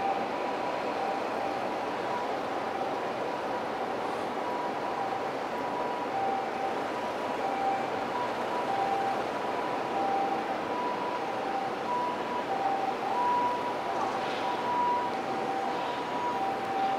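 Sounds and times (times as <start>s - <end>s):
construction site noise: 0.0s - 16.9s
traffic: 0.0s - 16.9s.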